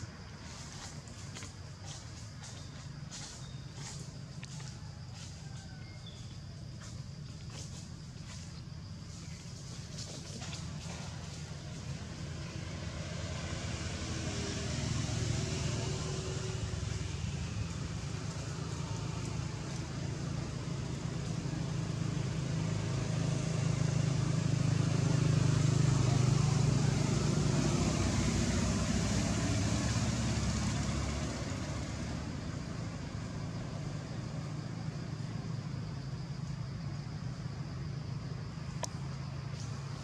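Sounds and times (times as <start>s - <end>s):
motor traffic rumble: 0.0s - 40.0s.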